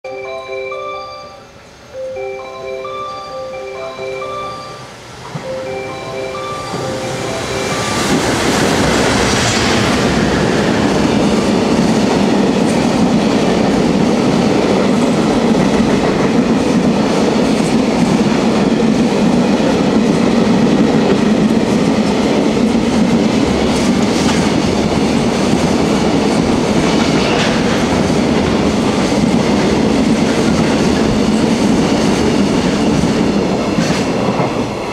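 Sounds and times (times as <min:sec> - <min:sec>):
electric locomotive passing: 0:00.1 - 0:34.9
train wheels running over rails: 0:05.0 - 0:34.9.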